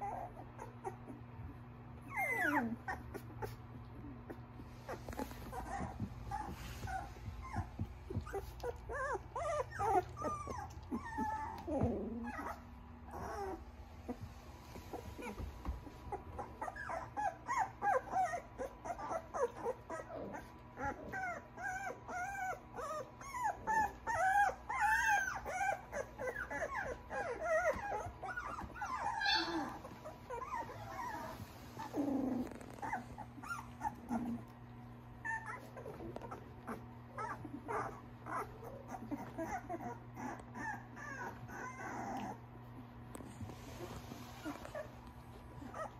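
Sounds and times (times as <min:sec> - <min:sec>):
faint steady hum: 0:00.0 - 0:45.9
puppies whimpering and squeaking: 0:00.0 - 0:45.9.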